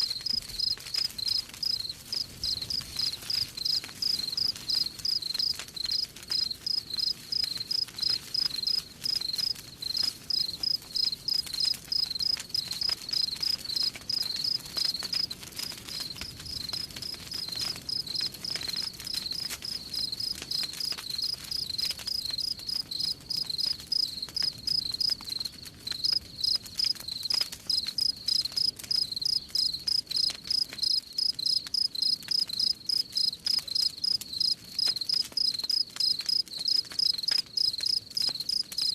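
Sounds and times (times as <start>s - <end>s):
crickets chirping: 0.0s - 15.3s, 17.4s - 21.4s, 22.1s - 38.9s
faint campfire crackling: 0.0s - 38.9s.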